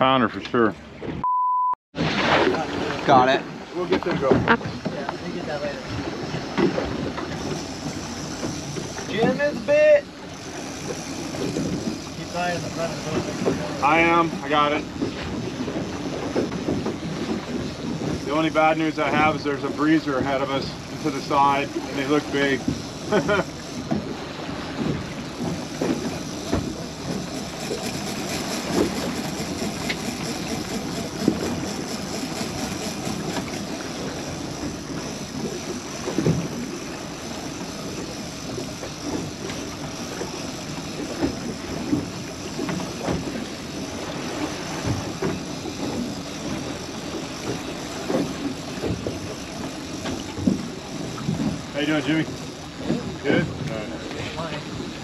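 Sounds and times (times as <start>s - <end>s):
wind: 0.0s - 55.0s
water noise: 1.9s - 55.0s.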